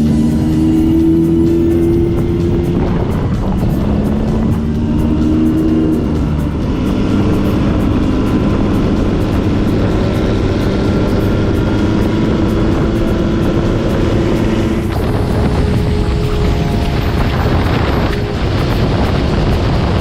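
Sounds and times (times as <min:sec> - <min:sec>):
low road rumble: 0:00.0 - 0:20.0
motorcycle engine running: 0:00.0 - 0:20.0.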